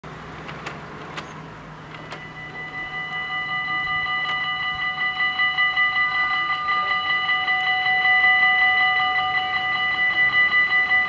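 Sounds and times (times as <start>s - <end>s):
level crossing bells ringing: 1.8s - 11.0s.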